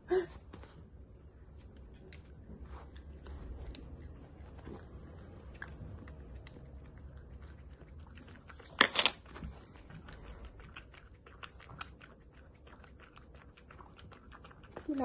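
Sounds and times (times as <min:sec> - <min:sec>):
dog lapping and smacking: 0:01.7 - 0:15.0.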